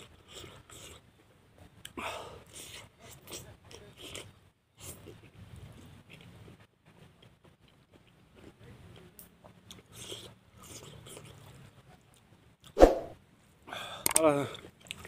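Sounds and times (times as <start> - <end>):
man chewing food: 0.0 - 12.8, 14.5 - 15.0.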